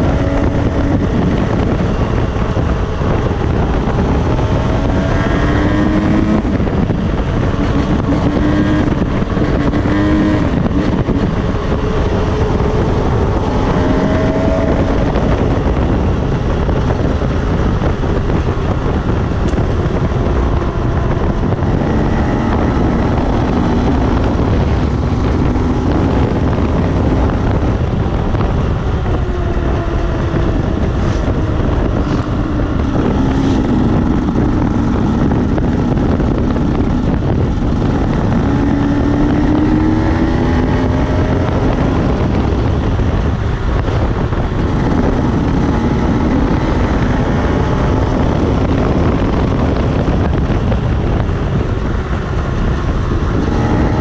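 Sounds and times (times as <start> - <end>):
dirt bike engines revving: 0.0 - 54.0
wind noise on microphone: 0.0 - 54.0.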